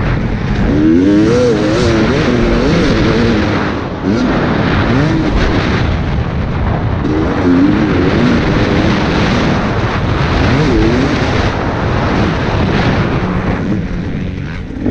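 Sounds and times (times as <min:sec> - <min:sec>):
two-stroke motorcycle engine revving: 0:00.0 - 0:14.9
wind rushing on microphone: 0:00.0 - 0:14.9.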